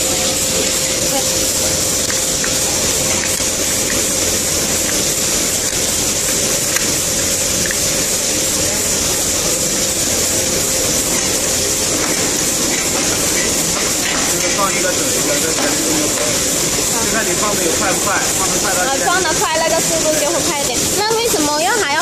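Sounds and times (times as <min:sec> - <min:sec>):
constant hum: 0:00.0 - 0:22.0
machine mechanical hiss: 0:00.0 - 0:22.0.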